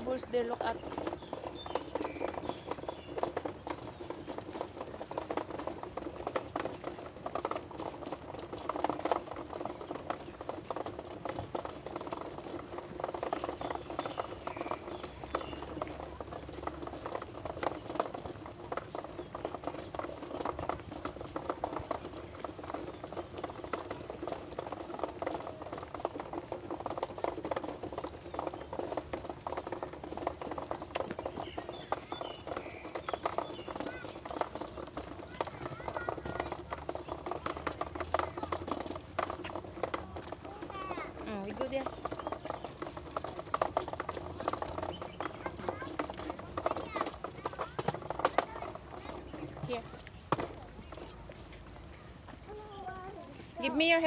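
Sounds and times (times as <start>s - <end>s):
small wheels rattling on pavement: 0.0s - 54.0s.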